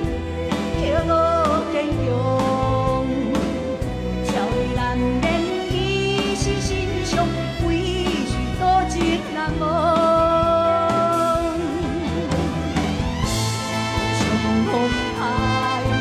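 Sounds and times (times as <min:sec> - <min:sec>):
woman singing a ballad: 0:00.0 - 0:12.5, 0:13.9 - 0:16.0
symphony orchestra playing: 0:00.0 - 0:16.0.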